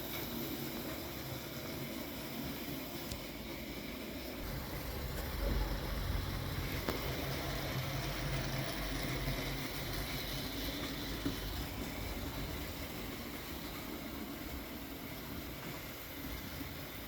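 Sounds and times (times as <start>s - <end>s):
model train wheels rumbling on rail: 0.0s - 17.0s.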